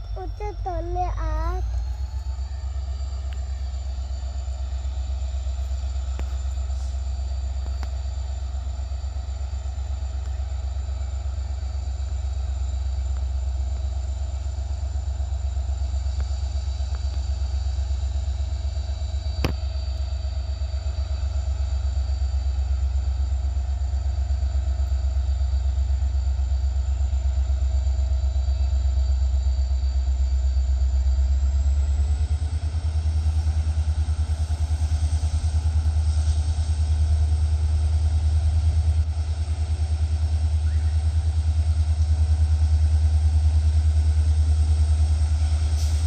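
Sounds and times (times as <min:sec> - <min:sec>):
diesel locomotive engine running: 0:00.0 - 0:46.0.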